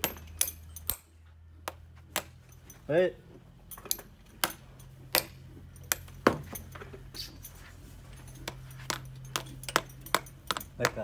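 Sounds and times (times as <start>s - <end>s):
metal tools tapping hoof: 0.0s - 11.0s.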